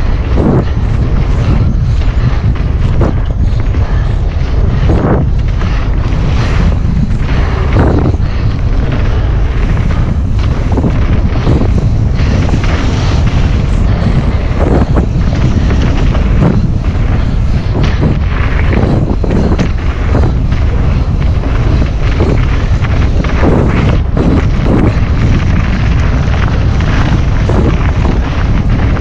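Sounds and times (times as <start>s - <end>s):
bike knocks and rattles: 0.0s - 29.0s
tyres rumbling on dirt: 0.0s - 29.0s
wind buffeting microphone: 0.0s - 29.0s.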